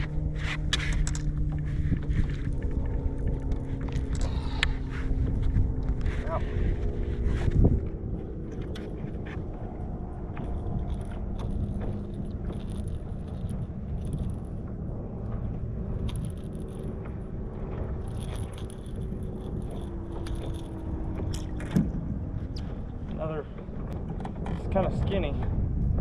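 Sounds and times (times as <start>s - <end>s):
light clicks and rattles: 0.0s - 25.6s
boat motor humming: 0.0s - 26.0s
wind noise: 0.0s - 26.0s.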